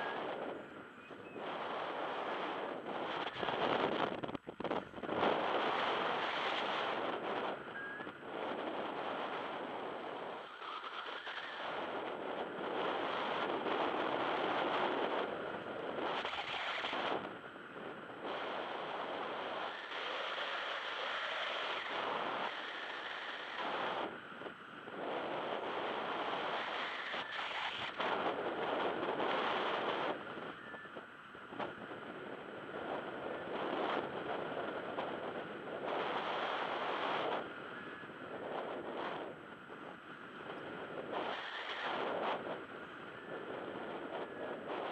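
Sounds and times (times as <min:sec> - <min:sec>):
wind rushing over microphone: 0:00.0 - 0:44.9.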